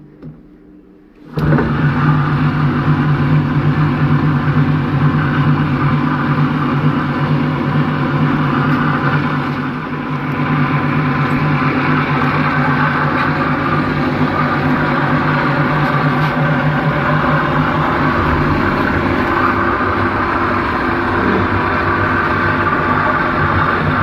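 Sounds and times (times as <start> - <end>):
electric pump motor humming: 0.0 - 24.0.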